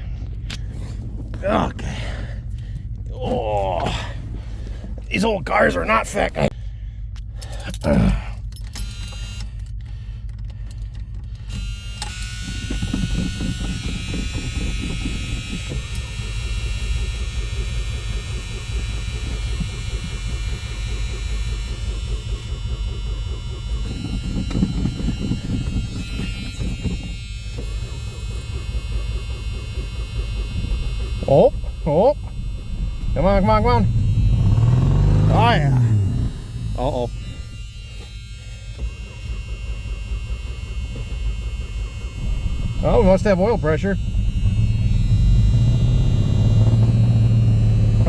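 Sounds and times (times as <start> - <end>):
low steady rumble: 0.0 - 48.0
starter motor cranking: 0.2 - 48.0.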